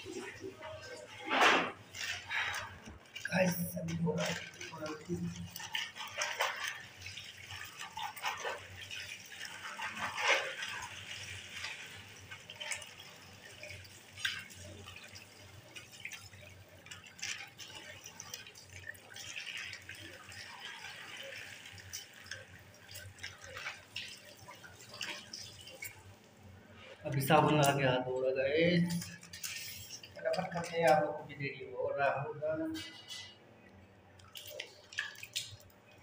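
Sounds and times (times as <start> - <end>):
tap water running and splashing: 0.0 - 27.8, 28.9 - 31.1, 34.1 - 36.0.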